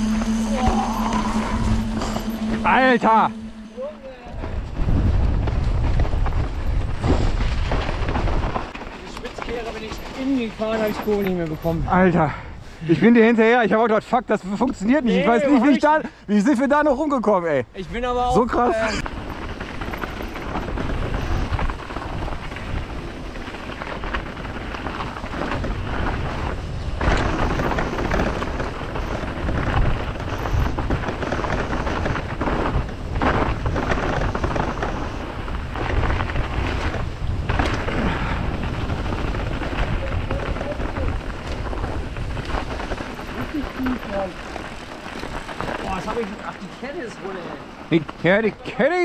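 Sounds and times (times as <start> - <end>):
wind buffeting microphone: 0.0 - 12.8, 17.9 - 48.2
bike tyres rolling: 0.0 - 49.0.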